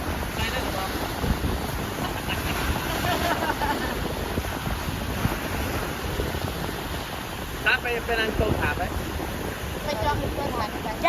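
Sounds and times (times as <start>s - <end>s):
surf washing on shore: 0.0s - 11.0s
wind buffeting microphone: 0.0s - 11.0s.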